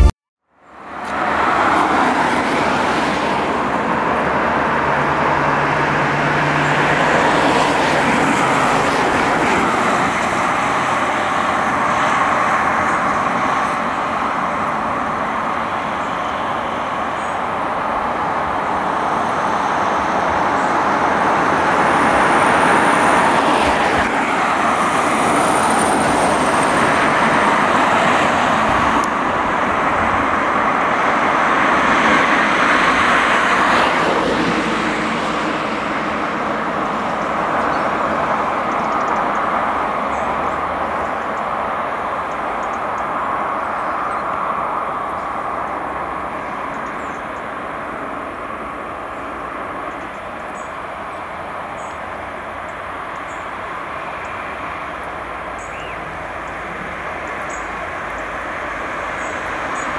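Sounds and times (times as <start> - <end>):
cars and vans driving past: 0.0 - 59.9.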